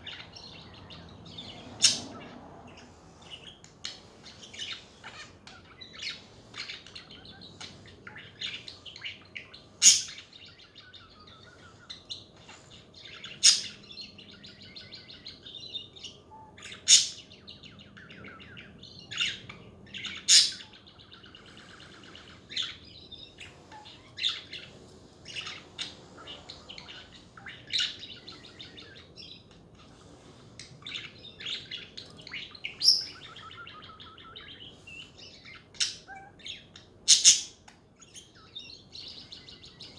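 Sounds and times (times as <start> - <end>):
budgerigars chattering: 0.0 - 39.9
sharp loud bird calls: 0.0 - 39.9.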